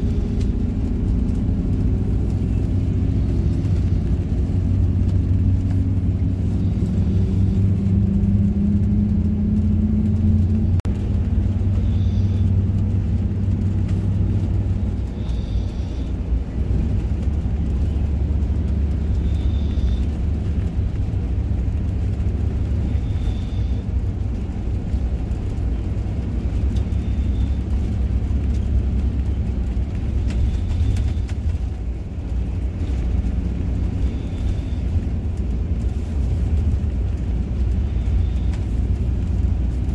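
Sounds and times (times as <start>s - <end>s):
bus engine and road drone: 0.0s - 39.9s.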